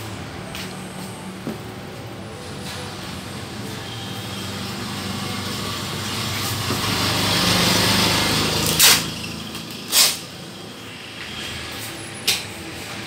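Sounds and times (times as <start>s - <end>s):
copier motors and fans whirring: 0.0s - 13.0s.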